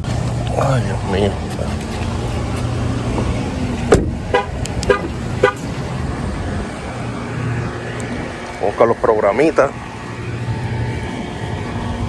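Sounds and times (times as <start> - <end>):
car running hum: 0.0 - 12.0.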